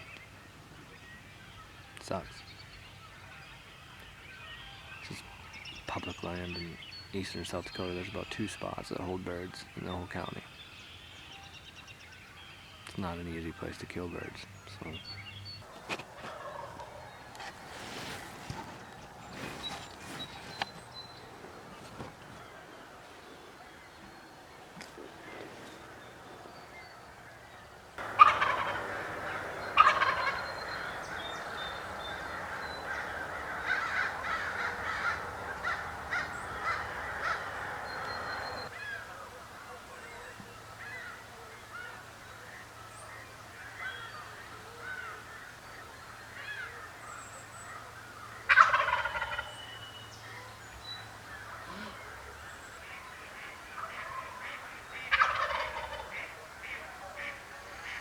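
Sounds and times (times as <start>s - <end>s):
chatter of bird calls: 0.8s - 10.7s, 11.3s - 58.0s
wild turkey gobbling: 7.4s - 17.8s, 20.6s - 58.0s.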